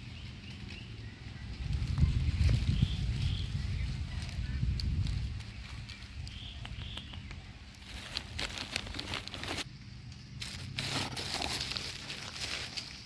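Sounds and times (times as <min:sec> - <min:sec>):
rustling and crackling: 0:00.0 - 0:13.0.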